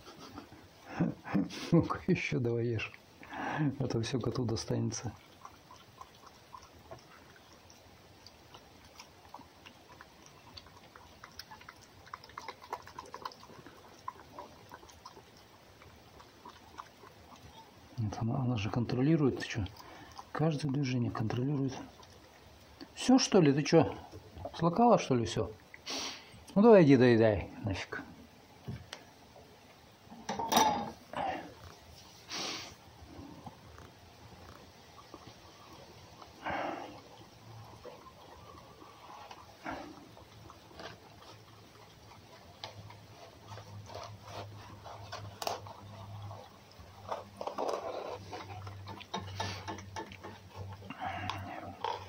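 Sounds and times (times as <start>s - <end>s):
animal lapping and chewing: 1.5s - 26.6s, 31.0s - 52.0s.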